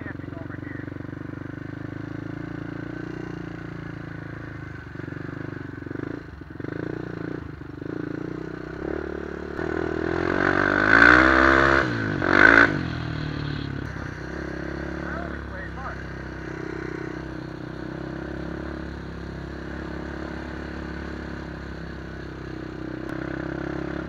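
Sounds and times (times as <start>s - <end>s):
quad bike engine revving: 0.0s - 24.0s.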